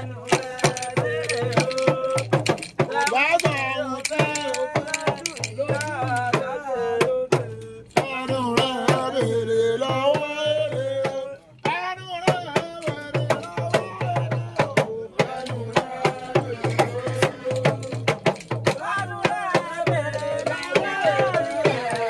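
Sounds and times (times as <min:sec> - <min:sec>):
hand drum percussion: 0:00.0 - 0:22.0
person singing: 0:00.0 - 0:22.0.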